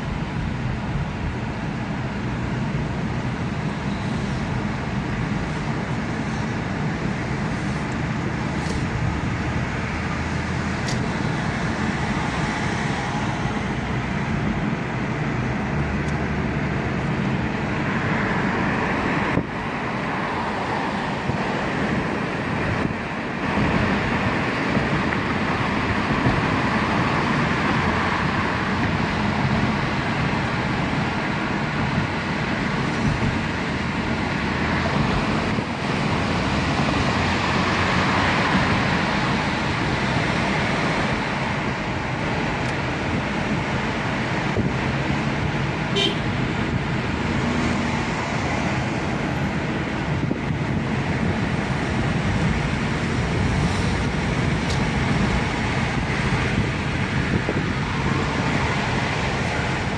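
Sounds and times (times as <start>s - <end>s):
road noise inside moving vehicle: 0.0s - 59.9s.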